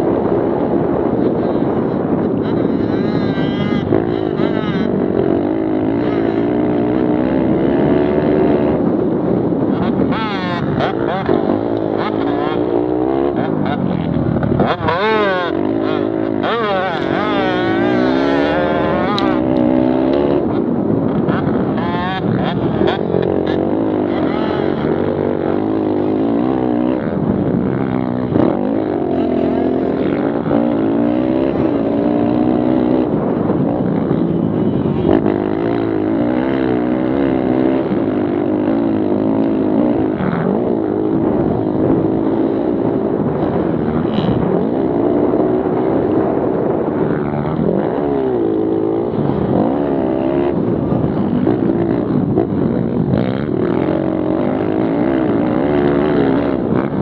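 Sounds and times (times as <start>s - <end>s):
pit bike engines racing: 0.0s - 57.0s.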